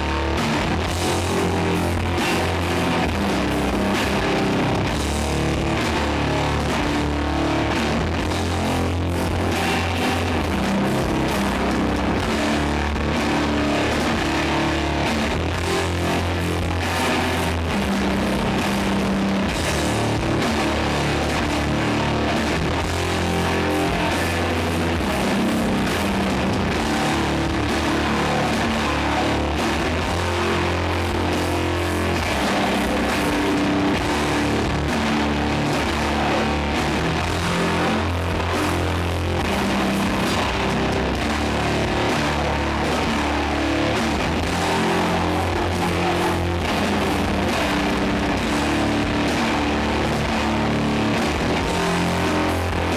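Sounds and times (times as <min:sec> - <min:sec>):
doom metal band playing live: 0:00.0 - 0:52.9.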